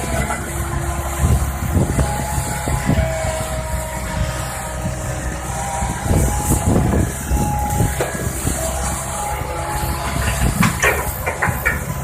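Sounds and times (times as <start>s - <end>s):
diesel engine running: 0.0s - 12.0s
knocks and metallic clanks: 0.0s - 12.0s
metal squeaks: 0.0s - 12.0s.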